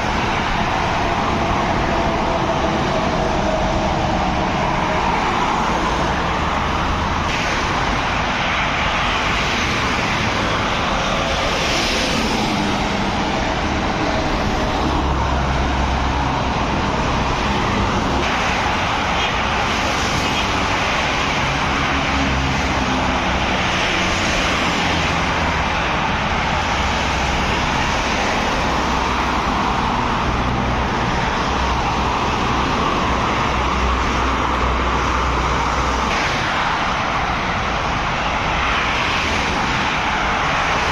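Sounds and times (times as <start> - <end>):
trucks and cars passing: 0.0 - 40.9.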